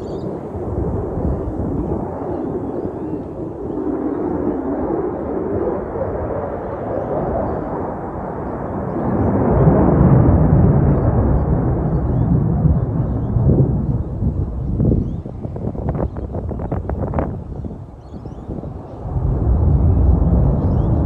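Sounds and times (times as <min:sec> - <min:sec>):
distant jet engine roar: 0:00.0 - 0:21.0.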